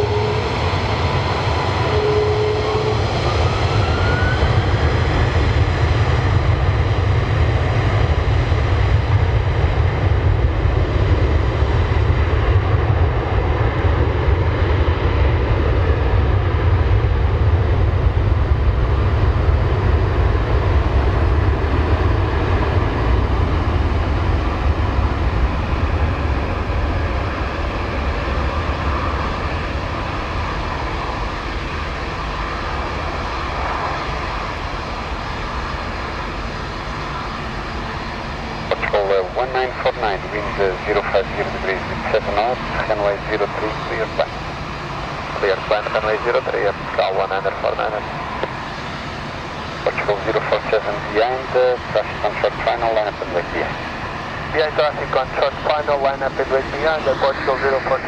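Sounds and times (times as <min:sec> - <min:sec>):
jet engines at takeoff power: 0:00.0 - 0:58.0.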